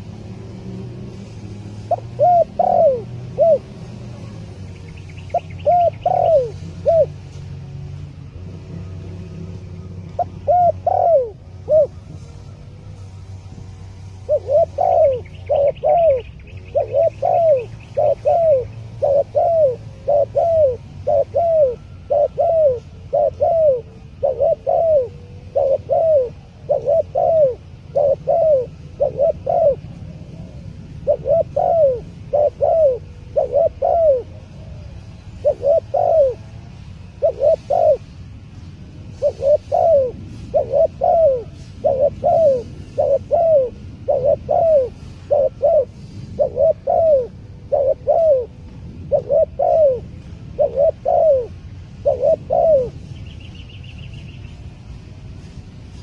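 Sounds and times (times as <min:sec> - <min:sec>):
dove cooing: 0:00.0 - 0:56.0
small birds chirping: 0:00.0 - 0:56.0.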